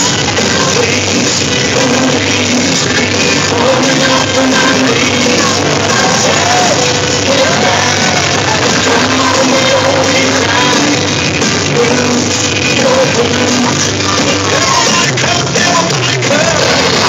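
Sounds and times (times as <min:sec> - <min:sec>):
loud rock music with vocals: 0:00.0 - 0:17.0.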